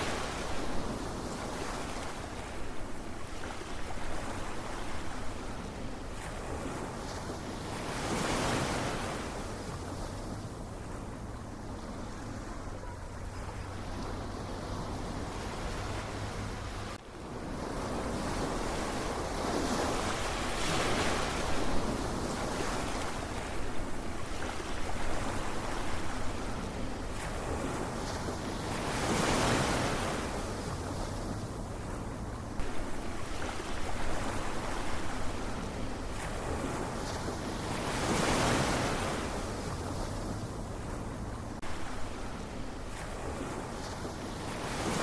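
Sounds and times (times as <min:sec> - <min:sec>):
ocean waves washing in: 0:00.0 - 0:45.0.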